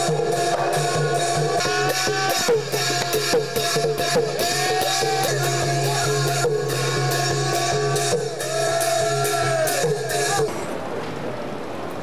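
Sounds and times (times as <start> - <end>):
long drum beat: 0.0 - 10.6
small hand cymbals: 0.0 - 10.7.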